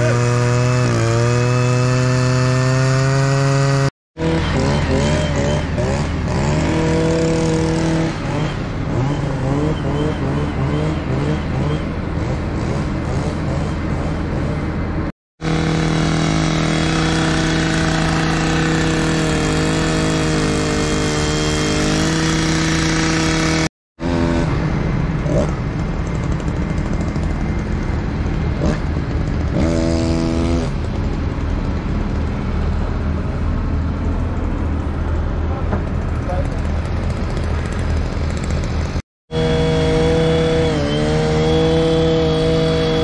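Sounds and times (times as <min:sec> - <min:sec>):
truck engine humming: 0:04.2 - 0:43.0.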